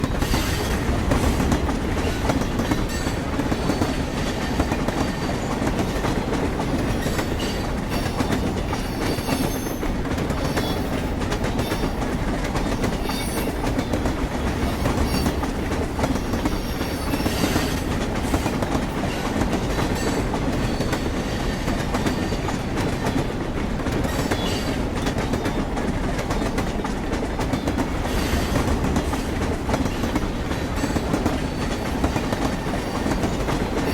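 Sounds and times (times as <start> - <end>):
train wheels clanking on rails: 0.0 - 33.9.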